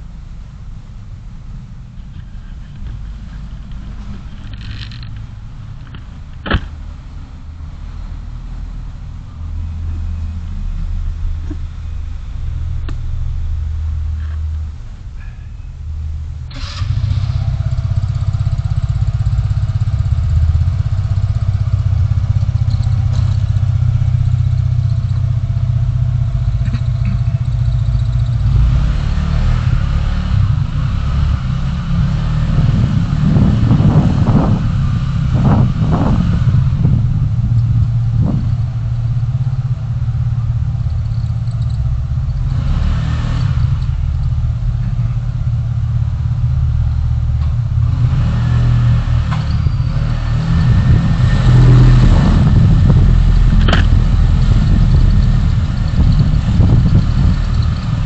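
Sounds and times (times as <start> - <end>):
car engine: 0.0 - 58.0
road rumble: 0.0 - 58.0.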